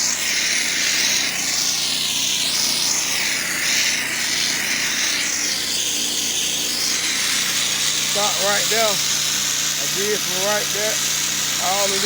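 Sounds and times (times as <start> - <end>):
pressure washer engine running: 0.0 - 12.0
water jets hissing on concrete: 0.0 - 12.0.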